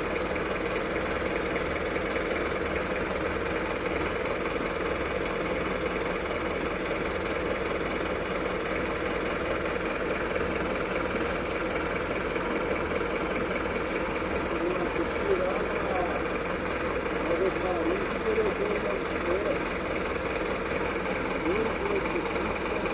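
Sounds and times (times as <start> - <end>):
truck engine idling: 0.0 - 22.9.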